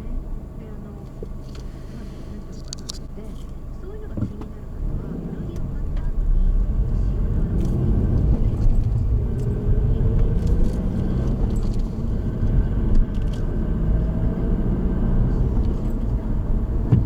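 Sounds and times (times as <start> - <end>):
car road rumble and engine: 0.0 - 17.0.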